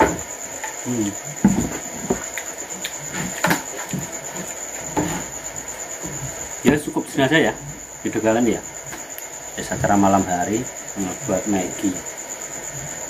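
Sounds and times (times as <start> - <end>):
insect trill: 0.0 - 13.0.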